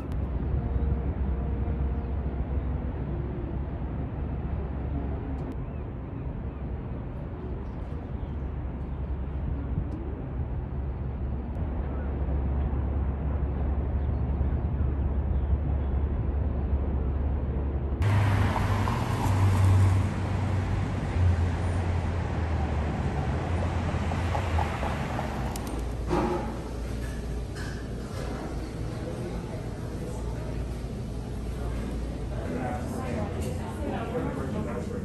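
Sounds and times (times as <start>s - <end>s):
city street traffic: 0.0s - 35.0s
steady low rumble: 0.0s - 35.0s.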